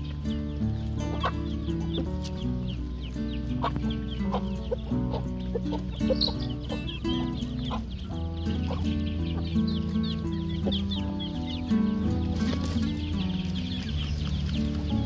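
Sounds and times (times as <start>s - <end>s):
background music with held notes: 0.0s - 15.0s
chickens clucking: 0.0s - 15.0s.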